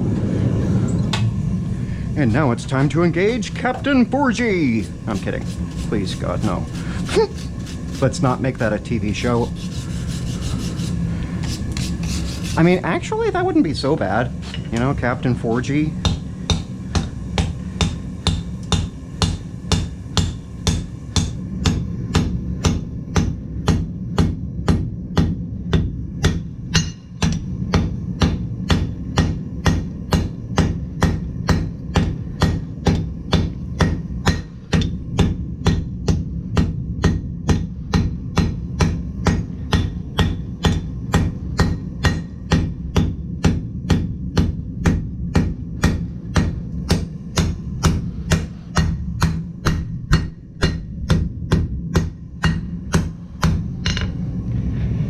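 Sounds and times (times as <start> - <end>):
steady low hum: 0.0 - 55.0
hammer blows on hot steel: 2.0 - 54.2.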